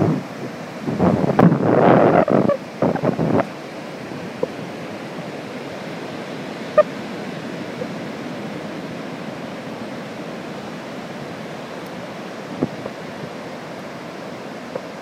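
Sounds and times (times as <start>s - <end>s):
surf on a beach: 0.0s - 15.0s.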